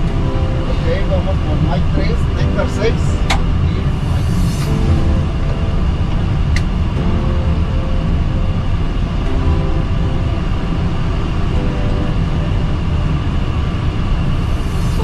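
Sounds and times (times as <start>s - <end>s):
jet airliner rolling on runway: 0.0s - 15.0s.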